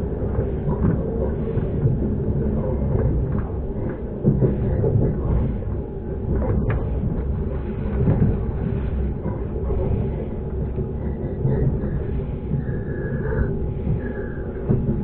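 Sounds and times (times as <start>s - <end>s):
train wheels rumbling: 0.1s - 15.0s.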